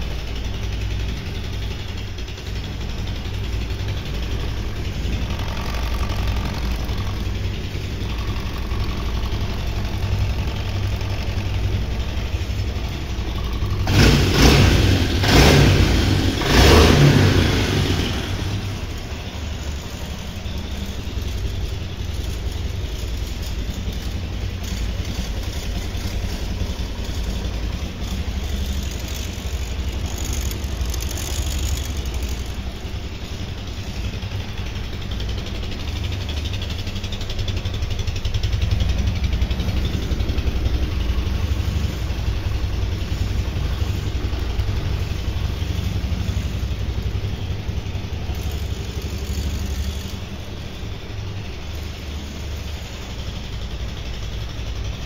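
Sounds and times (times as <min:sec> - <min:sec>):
atv engine idling: 0:00.0 - 0:55.0.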